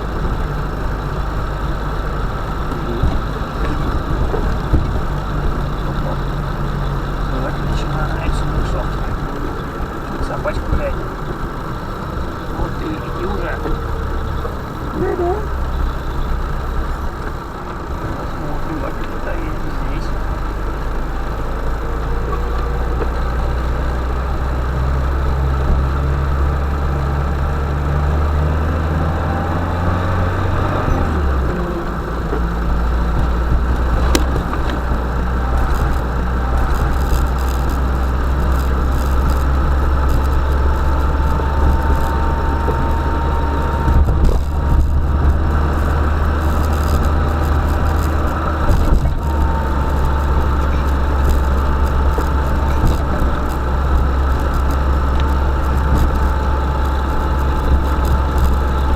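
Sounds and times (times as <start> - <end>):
van engine droning: 0.0 - 58.9.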